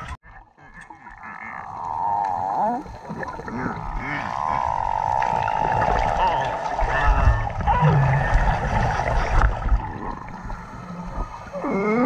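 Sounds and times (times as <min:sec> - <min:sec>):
sea lion calling underwater: 0:00.2 - 0:12.0
underwater gurgling bubbles: 0:01.1 - 0:12.0.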